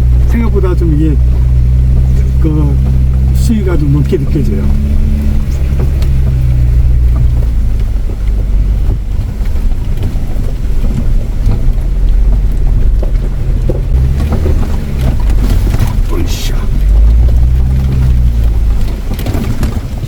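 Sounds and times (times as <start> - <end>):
knocks and rattles: 0.0 - 20.0
vehicle engine under load: 0.0 - 20.0.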